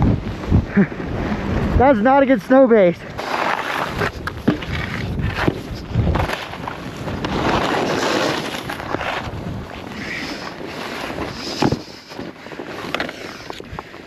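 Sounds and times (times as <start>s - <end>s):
wind buffeting microphone: 0.0s - 3.2s, 3.8s - 14.0s
skis scraping on hard snow: 1.2s - 14.0s.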